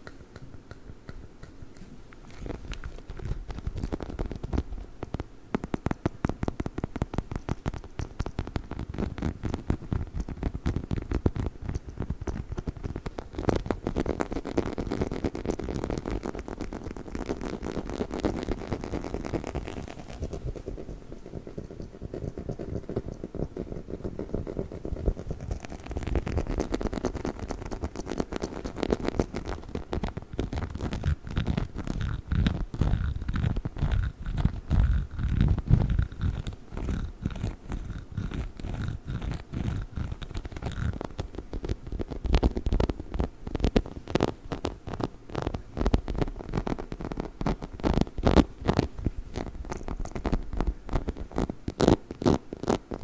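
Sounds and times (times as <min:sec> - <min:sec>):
taps and scratches on dog toy: 0:00.0 - 0:53.0.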